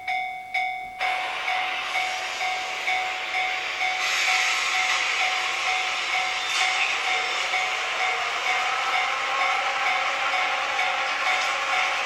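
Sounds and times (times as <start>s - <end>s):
freight train running past: 0.0s - 12.0s
level-crossing warning bell: 0.0s - 12.0s.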